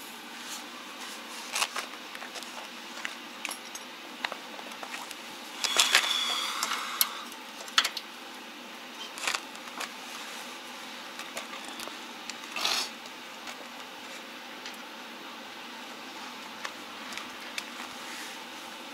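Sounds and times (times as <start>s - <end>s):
scraping rustles of tools and cable: 0.3s - 8.0s, 9.0s - 14.3s, 16.2s - 18.9s.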